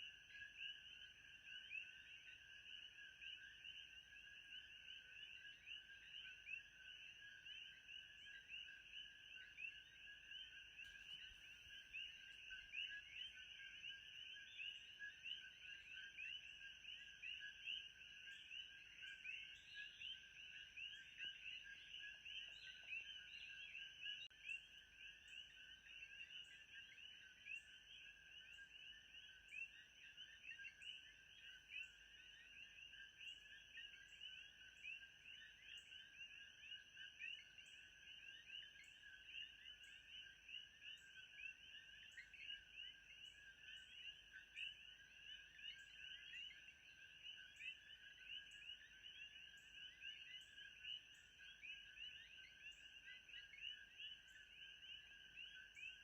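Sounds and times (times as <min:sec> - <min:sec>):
frogs chirping: 0:00.0 - 0:56.0.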